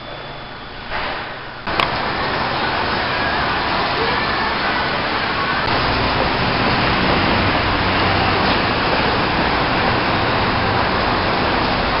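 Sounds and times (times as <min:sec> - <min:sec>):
traffic roar: 0:01.6 - 0:12.0.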